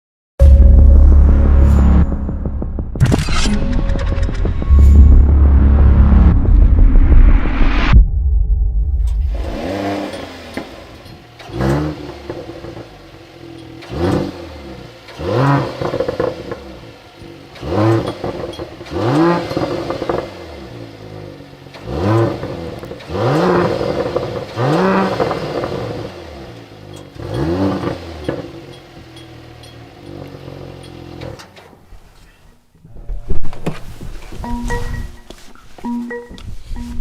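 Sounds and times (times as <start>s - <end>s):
car engine revving: 0.4s - 8.1s, 8.7s - 31.5s.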